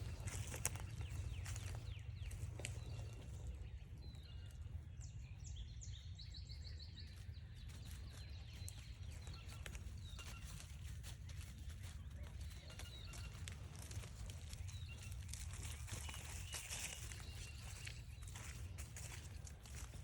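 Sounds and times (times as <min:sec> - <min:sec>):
footsteps on forest trail: 0:00.0 - 0:05.6, 0:06.9 - 0:20.0
songbird singing: 0:00.0 - 0:20.0
steady low rumble: 0:00.0 - 0:20.0.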